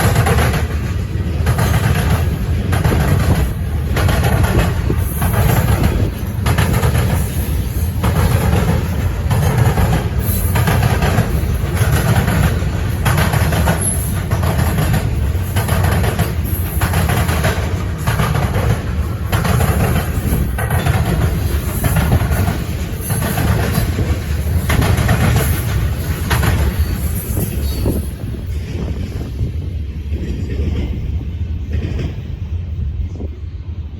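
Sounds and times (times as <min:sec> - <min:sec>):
train wheels clacking over joints: 0:00.0 - 0:29.3
low train rumble: 0:00.0 - 0:33.9.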